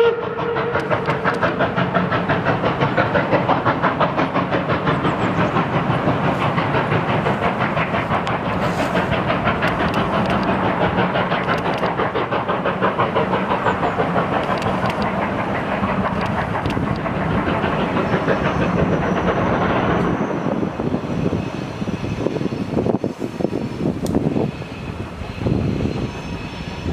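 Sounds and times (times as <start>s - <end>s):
steam locomotive exhaust chuffs: 0.0s - 26.9s.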